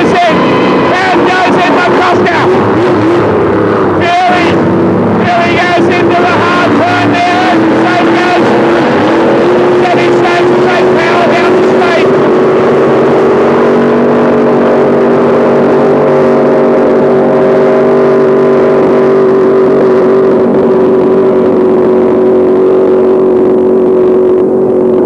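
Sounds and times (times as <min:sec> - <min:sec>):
powerboat engine at high revs: 0:00.0 - 0:25.0.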